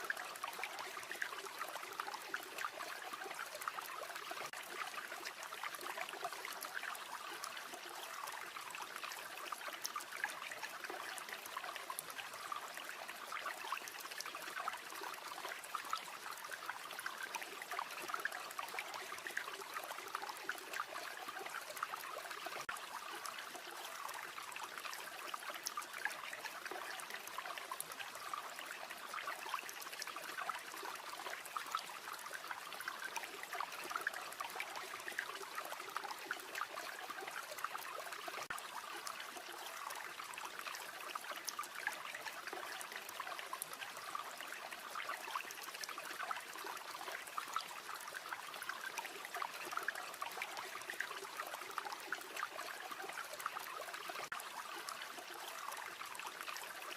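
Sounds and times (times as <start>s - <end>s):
stream burbling: 0.0s - 56.9s.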